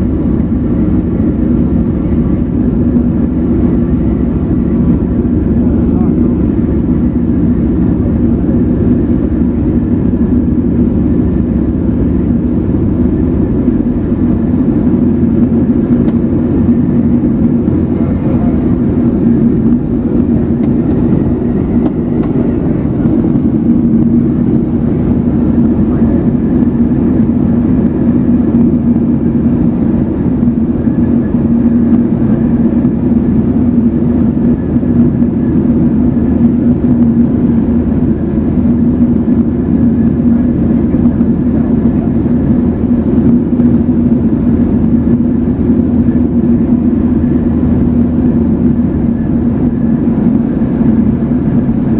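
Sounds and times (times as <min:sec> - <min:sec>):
light aircraft engine drone: 0:00.0 - 0:51.9.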